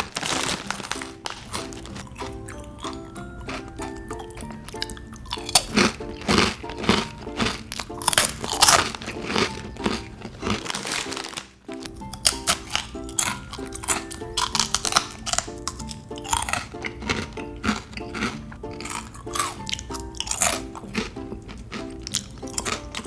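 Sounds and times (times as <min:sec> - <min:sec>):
background music: 0:00.0 - 0:23.0
snack crunching as chewed: 0:00.0 - 0:23.0
snack packet crinkling: 0:00.0 - 0:23.0.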